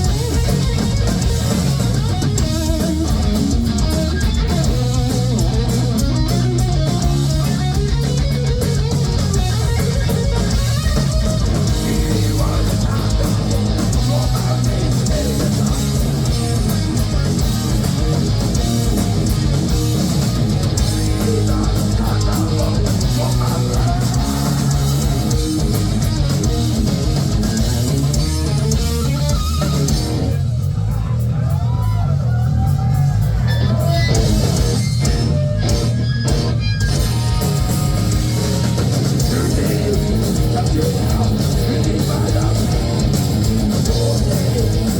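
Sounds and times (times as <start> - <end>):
bending guitar notes: 0.0 - 30.7, 33.4 - 44.9
heavy metal band playing: 0.0 - 44.9.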